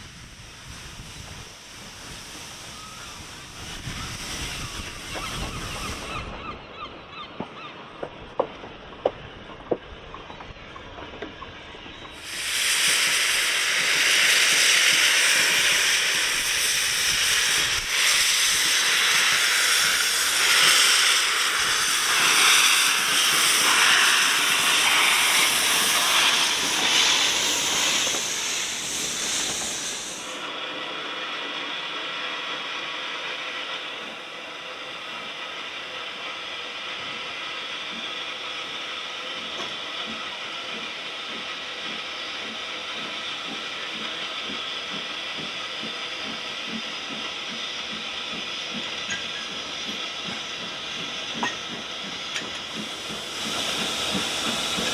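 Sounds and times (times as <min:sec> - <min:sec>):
locomotive venting steam hiss: 0:00.0 - 0:06.5, 0:12.0 - 0:54.9.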